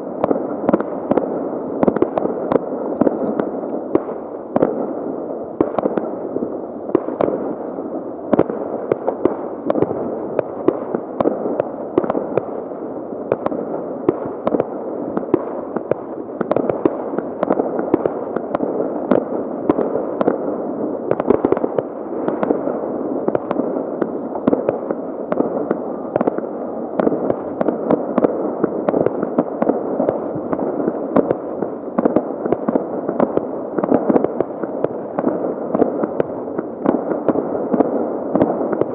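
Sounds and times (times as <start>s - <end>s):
fireworks and firecrackers bangs: 0.0s - 38.9s.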